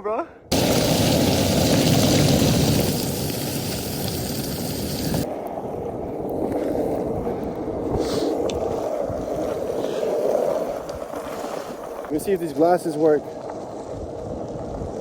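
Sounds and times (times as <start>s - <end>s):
skateboard wheels rolling on snowy road: 0.5s - 15.0s.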